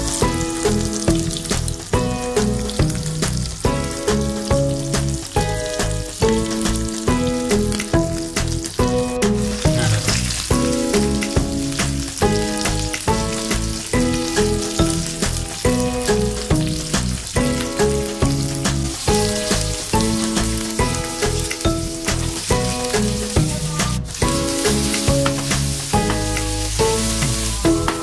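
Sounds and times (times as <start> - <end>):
background music with beat: 0.0 - 28.0
food sizzling in hot oil: 0.0 - 28.0.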